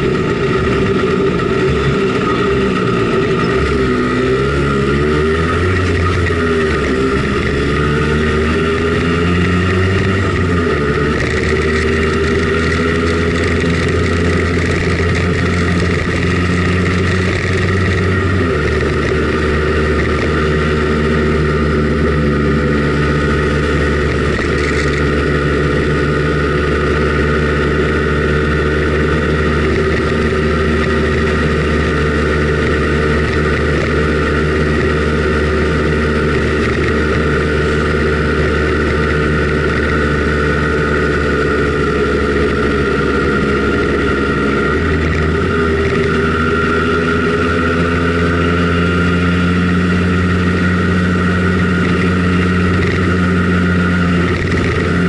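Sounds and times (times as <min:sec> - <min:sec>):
two-stroke scooter engine running: 0:00.0 - 0:55.0.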